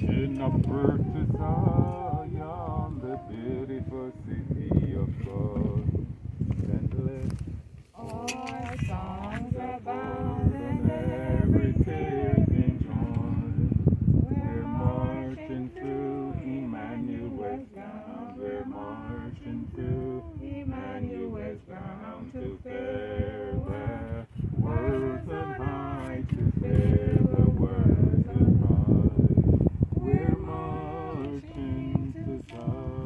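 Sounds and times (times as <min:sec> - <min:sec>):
person singing unaccompanied: 0:00.0 - 0:06.2, 0:08.0 - 0:33.0.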